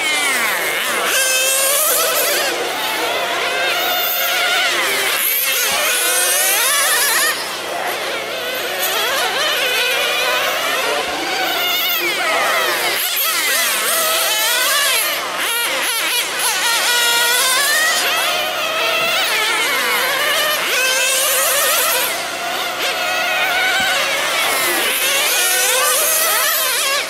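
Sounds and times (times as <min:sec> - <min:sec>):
rc car engines buzzing and revving: 0:00.0 - 0:27.0.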